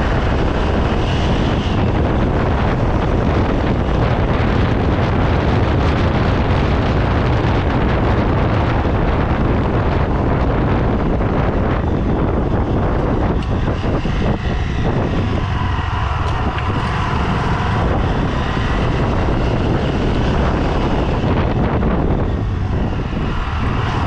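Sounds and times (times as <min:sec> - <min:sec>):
vehicle rumbling: 0:00.0 - 0:24.0
wind buffeting microphone: 0:00.0 - 0:24.0.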